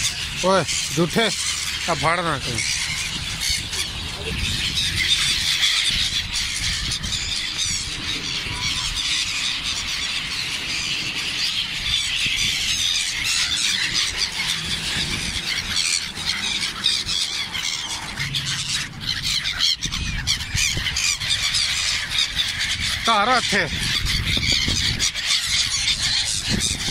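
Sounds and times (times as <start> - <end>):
flock of gulls squealing: 0.0 - 26.9.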